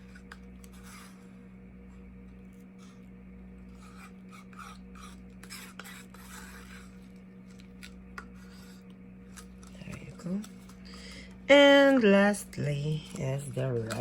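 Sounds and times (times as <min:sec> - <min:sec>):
plastic cups scraping and rubbing: 0:00.0 - 0:01.4, 0:02.4 - 0:14.0
steady low hum: 0:00.0 - 0:14.0.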